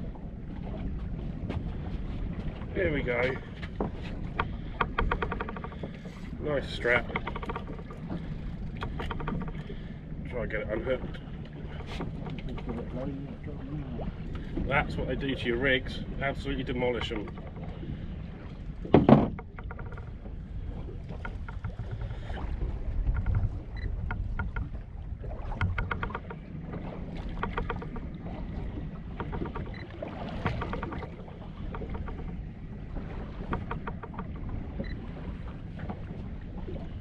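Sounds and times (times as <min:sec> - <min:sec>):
wind and water rumble: 0:00.0 - 0:37.0.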